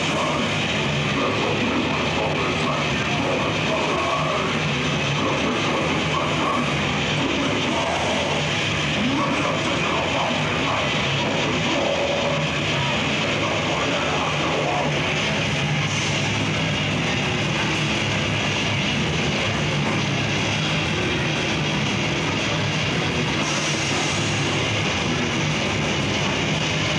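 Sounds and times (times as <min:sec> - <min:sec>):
distorted electric guitars: 0:00.0 - 0:26.9
drums: 0:00.0 - 0:26.9.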